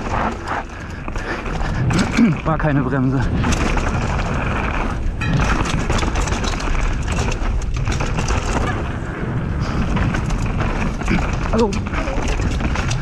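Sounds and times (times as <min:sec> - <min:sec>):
bike clattering over bumps: 0:00.0 - 0:13.0
bike tyre noise: 0:00.0 - 0:13.0
wind rushing over microphone: 0:00.0 - 0:13.0.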